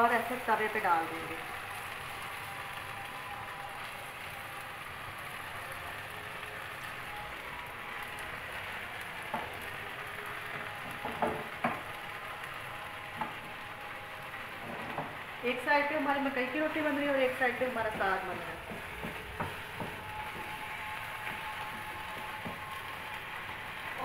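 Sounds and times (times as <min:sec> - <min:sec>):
flatbread sizzling in oil: 0:00.0 - 0:24.0.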